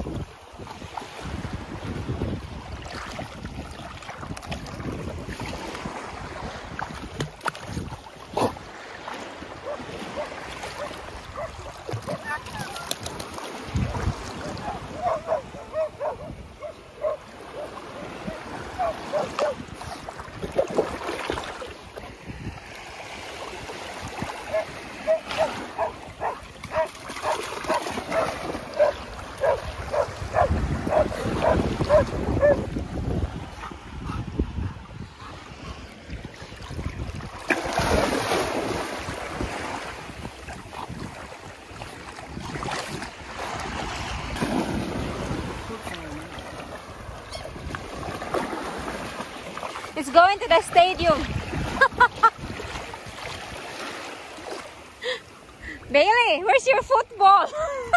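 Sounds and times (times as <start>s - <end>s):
wind on microphone: 0.0s - 53.8s
small waves lapping: 0.0s - 57.9s
splashing in shallow water: 0.0s - 57.9s.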